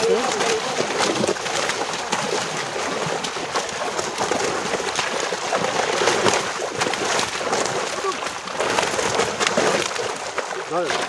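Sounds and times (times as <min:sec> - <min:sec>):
fish splashing in net: 0:00.0 - 0:11.0.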